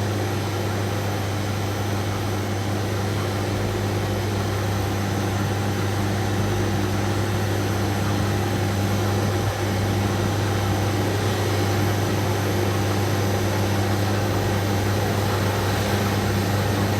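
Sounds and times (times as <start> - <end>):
floor grinding machine running: 0.0 - 16.9.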